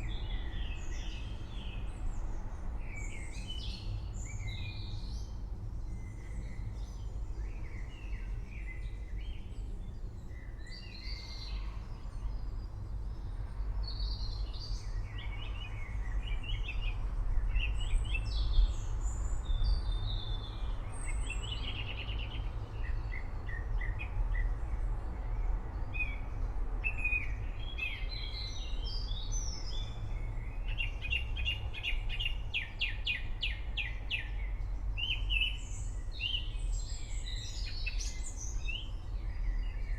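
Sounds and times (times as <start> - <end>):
birds singing and chirping: 0.0 - 24.8, 25.8 - 39.9.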